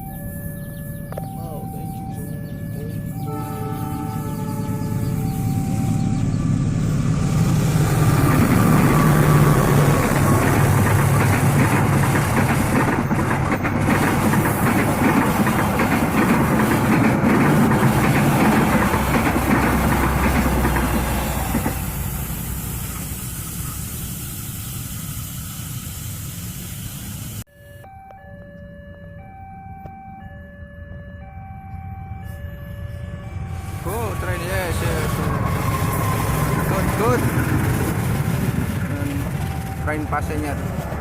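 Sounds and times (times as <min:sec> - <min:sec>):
train wheels rumbling on rails: 0:00.0 - 0:27.4, 0:32.3 - 0:41.0
diesel locomotive engine drone: 0:00.0 - 0:41.0.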